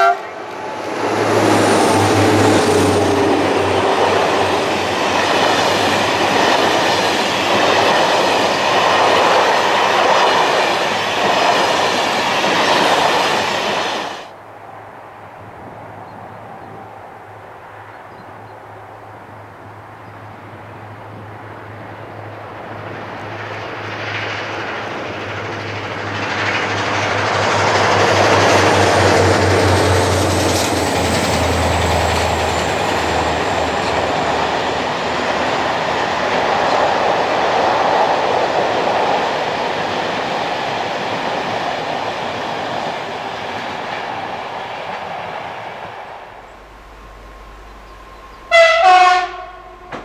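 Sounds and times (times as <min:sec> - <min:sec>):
diesel locomotive engine throbbing: 0:00.0 - 0:13.5, 0:21.1 - 0:50.0
train wheels rumbling on rails: 0:00.0 - 0:14.4, 0:15.3 - 0:50.0.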